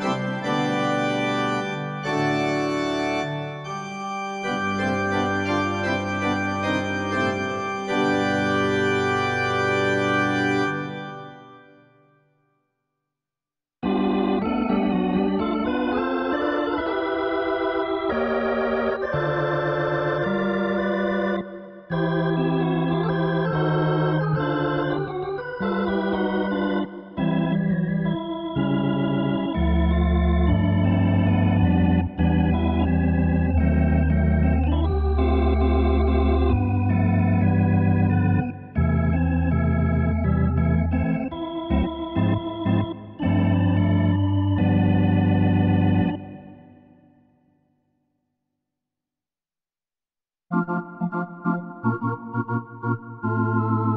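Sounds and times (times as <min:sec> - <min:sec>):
keyboard organ chords: 0:00.0 - 0:12.2, 0:13.8 - 0:47.3, 0:50.5 - 0:53.9.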